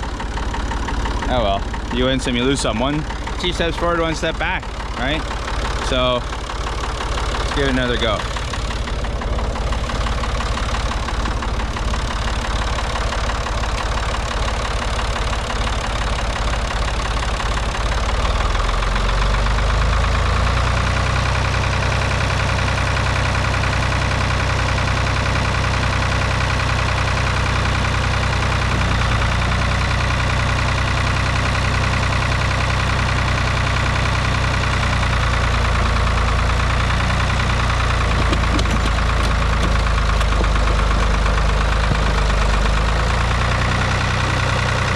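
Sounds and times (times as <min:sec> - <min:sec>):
tractor engine knocking: 0:00.0 - 0:44.9.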